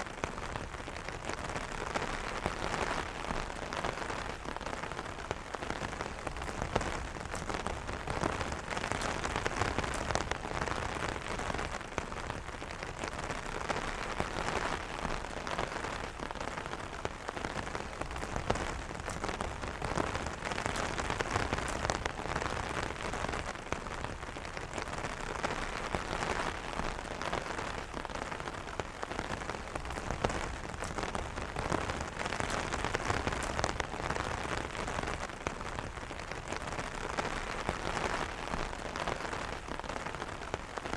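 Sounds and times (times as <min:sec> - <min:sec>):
rain pattering on an umbrella: 0:00.0 - 0:40.9.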